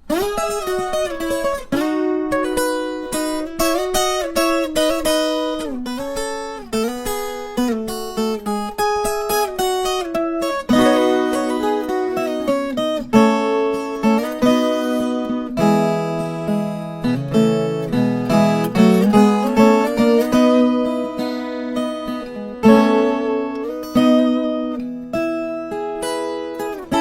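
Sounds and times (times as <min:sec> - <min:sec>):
plucked guitar melody and chords: 0:00.0 - 0:27.0.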